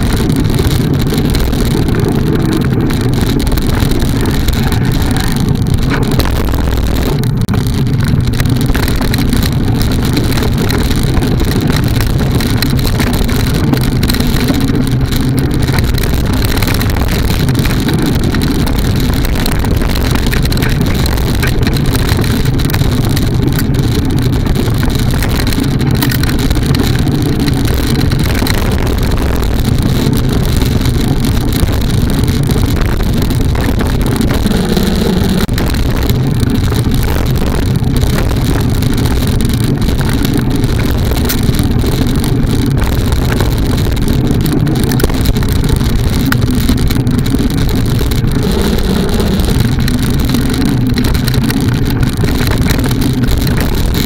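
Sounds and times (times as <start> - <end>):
bike knocks and rattles: 0.0 - 54.0
wind and vibration rumble: 0.0 - 54.0.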